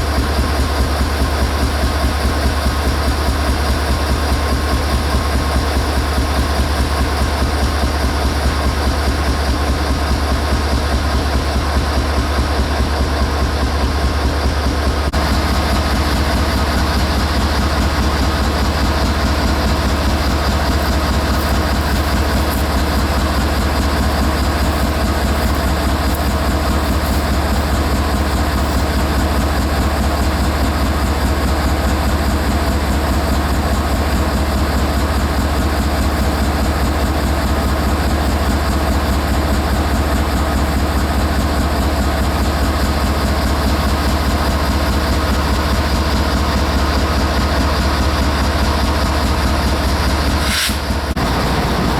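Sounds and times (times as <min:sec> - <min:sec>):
diesel locomotive rumbling: 0:00.0 - 0:51.9.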